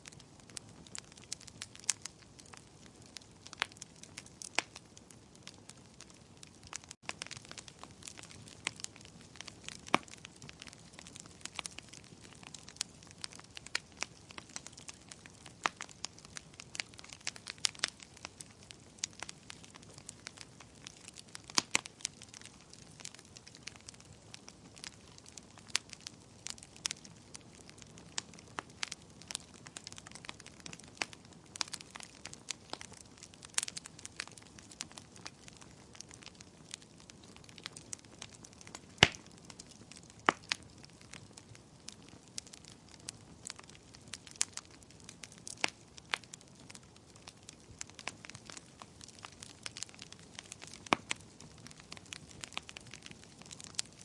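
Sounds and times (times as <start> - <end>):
bonfire crackling and popping: 0.0 - 54.0
soft hiss of burning: 0.0 - 54.0.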